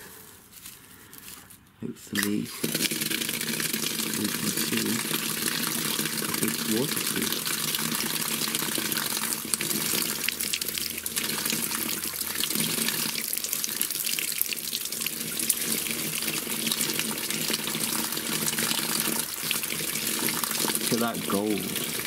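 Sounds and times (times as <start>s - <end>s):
water pouring from a tap: 2.6s - 22.0s
water splashing on a drain: 2.6s - 22.0s.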